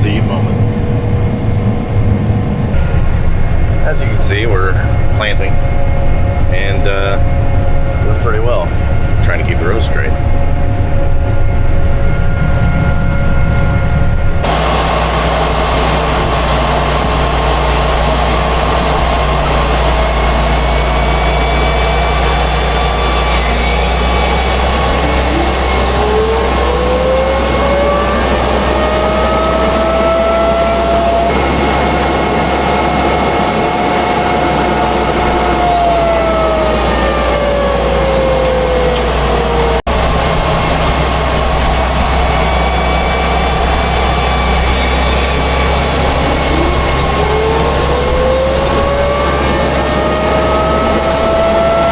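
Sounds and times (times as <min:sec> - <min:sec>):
rising and falling whine: 0:00.0 - 0:51.9
tractor engine running: 0:00.0 - 0:51.9.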